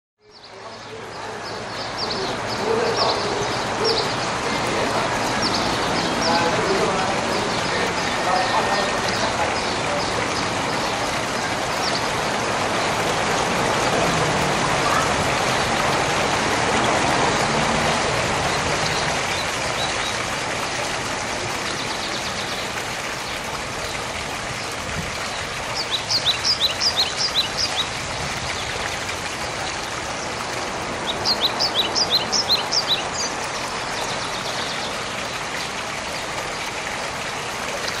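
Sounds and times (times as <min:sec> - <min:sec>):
fountain water splashing: 0:00.2 - 0:38.0.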